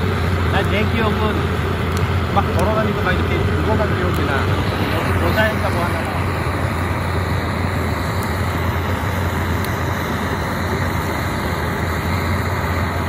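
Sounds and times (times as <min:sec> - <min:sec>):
low hum: 0:00.0 - 0:13.0
propane torch flame rushing: 0:00.0 - 0:13.0.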